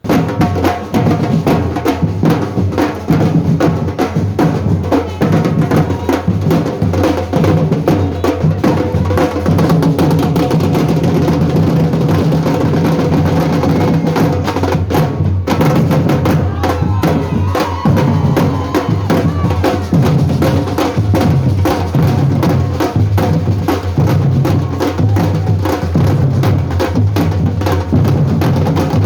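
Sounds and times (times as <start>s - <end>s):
fast drumming: 0.0s - 29.0s.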